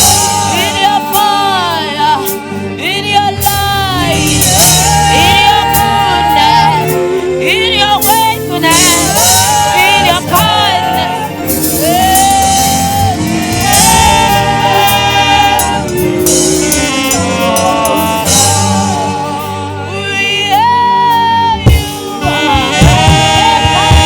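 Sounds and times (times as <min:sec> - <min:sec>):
band backing: 0:00.0 - 0:24.0
saxophone melody: 0:00.0 - 0:24.0.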